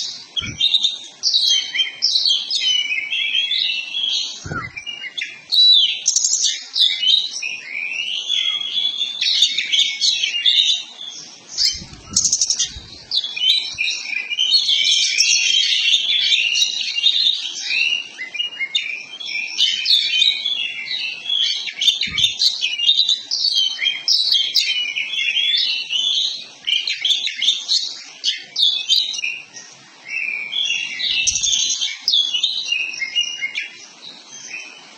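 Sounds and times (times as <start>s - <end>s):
bird singing whistles and chatter: 0.0s - 34.8s.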